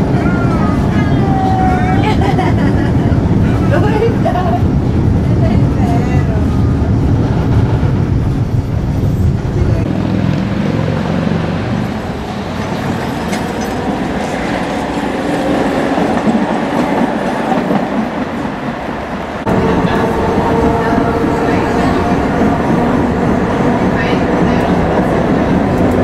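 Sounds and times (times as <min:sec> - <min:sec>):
tram rumbling inside cab: 0:00.0 - 0:26.0
tram wheels rattling on track: 0:00.0 - 0:26.0.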